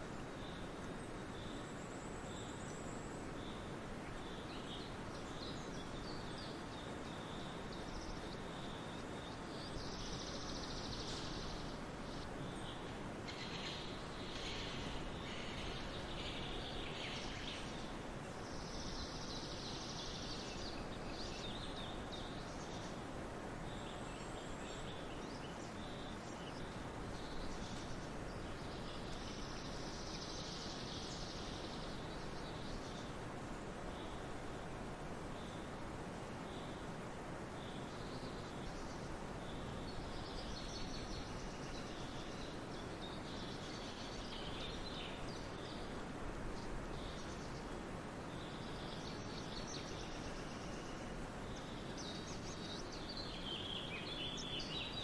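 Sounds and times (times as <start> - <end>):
steady background hiss: 0.0 - 55.0
wild birds chirping: 0.0 - 55.0.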